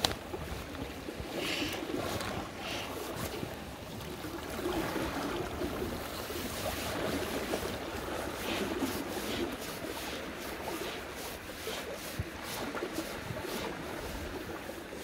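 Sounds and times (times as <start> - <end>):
river current rushing and lapping: 0.0 - 15.0
wind rumble on microphone: 0.0 - 15.0.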